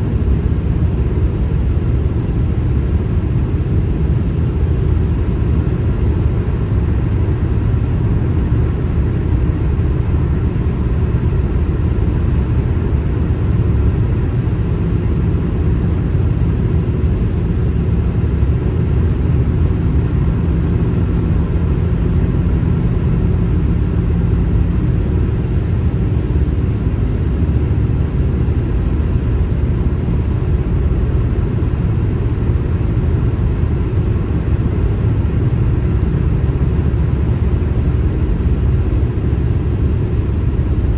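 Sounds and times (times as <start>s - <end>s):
car driving on highway: 0.0s - 40.9s
faint steady hum: 0.0s - 40.9s.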